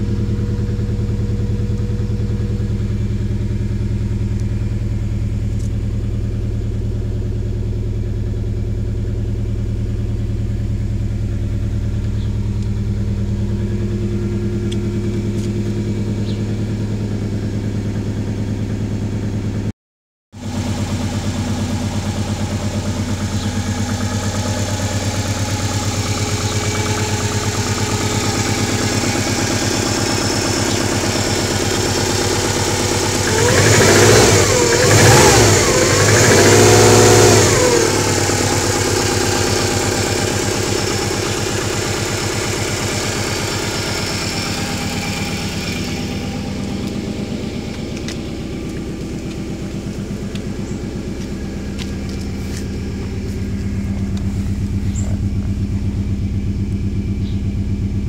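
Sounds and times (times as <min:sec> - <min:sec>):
car engine idling and revving: 0:00.0 - 0:19.7, 0:20.3 - 0:58.0.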